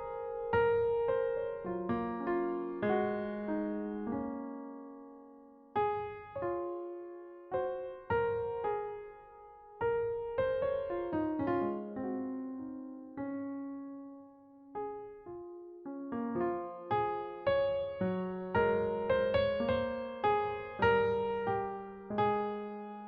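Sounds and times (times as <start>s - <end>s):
slow solo piano music: 0.0s - 23.0s.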